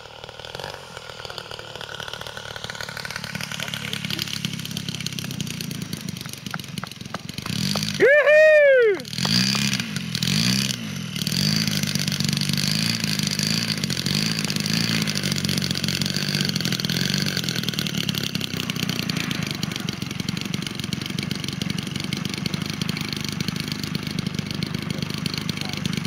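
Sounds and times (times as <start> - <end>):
model plane engine idling: 0.0 - 26.0.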